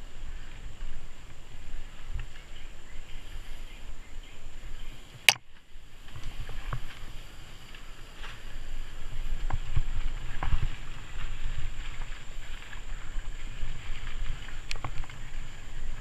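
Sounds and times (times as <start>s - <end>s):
bike tyres rumbling on dirt: 0.0s - 16.0s
wind on microphone: 0.0s - 16.0s.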